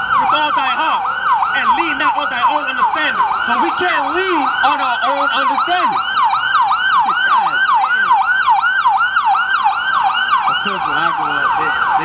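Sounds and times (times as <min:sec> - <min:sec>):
ambulance siren yelp: 0:00.0 - 0:12.0.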